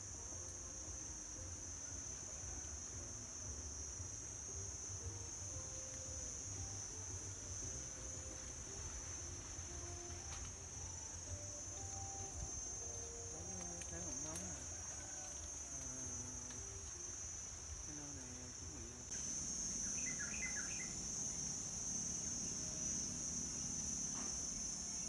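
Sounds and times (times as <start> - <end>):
insects shrilling: 0.0 - 25.0.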